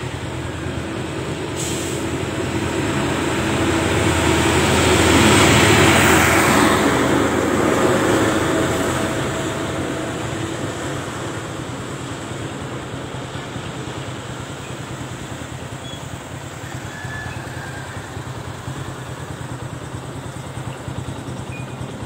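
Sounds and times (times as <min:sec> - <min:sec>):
heavy truck passing: 0:00.0 - 0:22.0.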